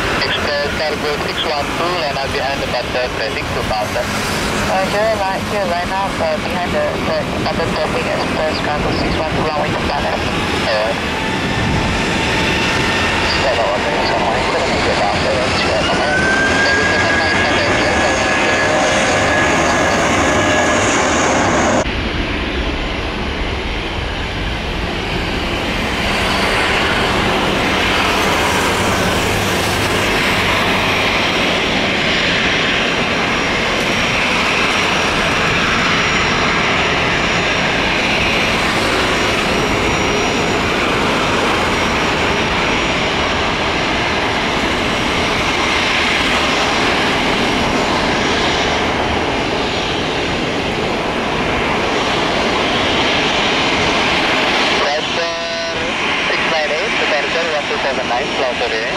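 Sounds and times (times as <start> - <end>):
jet engines taxiing: 0.0 - 58.9.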